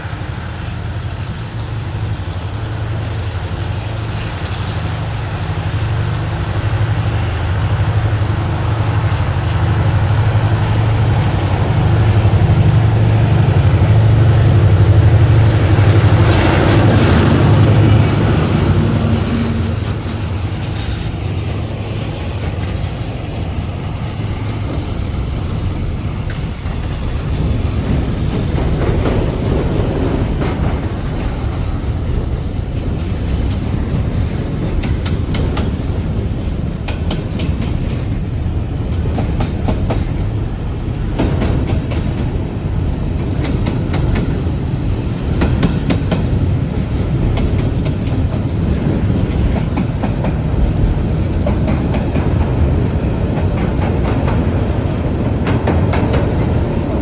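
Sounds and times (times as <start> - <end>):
train rumbling past: 0.0 - 57.0
wheels clacking over rail joints: 0.0 - 57.0.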